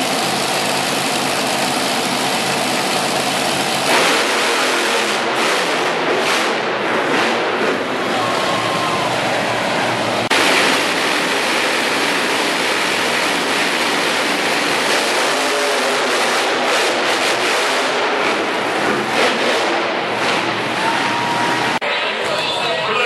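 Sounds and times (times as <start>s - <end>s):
truck engine at high throttle: 0.0s - 21.8s.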